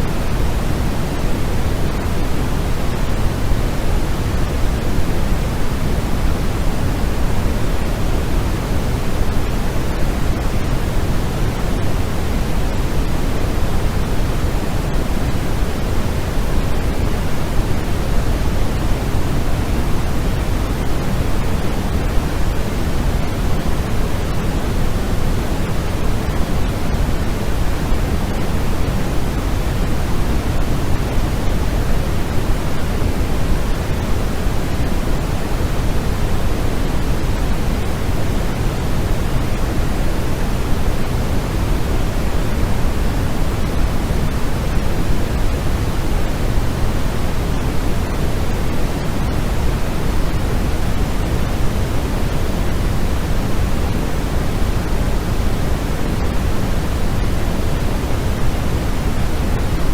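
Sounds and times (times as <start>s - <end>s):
steady pink noise: 0.0s - 59.9s.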